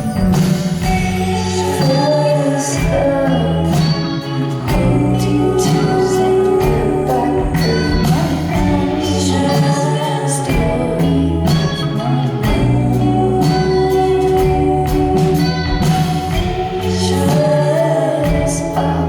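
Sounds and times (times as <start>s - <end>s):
live band playing: 0.0s - 19.0s
person singing: 0.0s - 19.0s.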